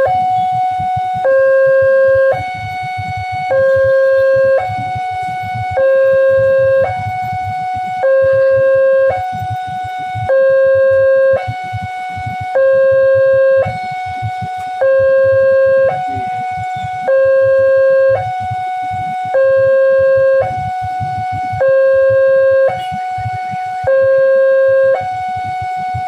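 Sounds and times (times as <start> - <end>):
two-tone crossing warning alarm: 0.0 - 26.0.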